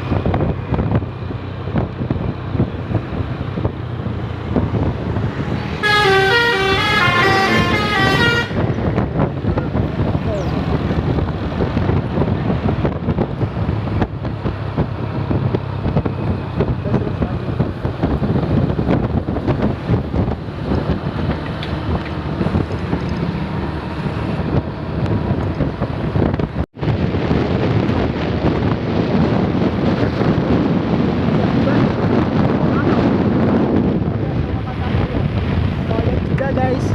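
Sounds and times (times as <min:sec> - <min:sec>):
vehicle engine running: 0:00.0 - 0:36.9
wind buffeting microphone: 0:00.0 - 0:36.9.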